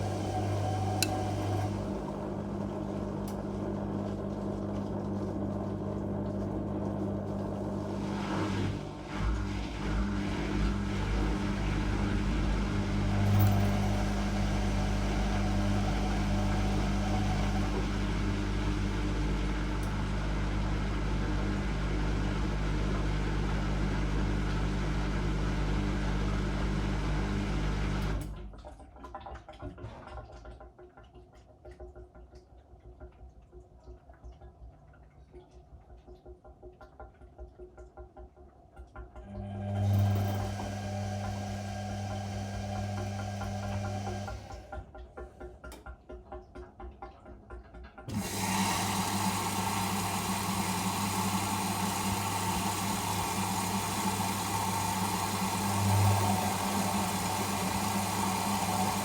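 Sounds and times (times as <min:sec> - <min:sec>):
washing machine humming: 0:00.0 - 0:32.0, 0:35.4 - 0:59.0.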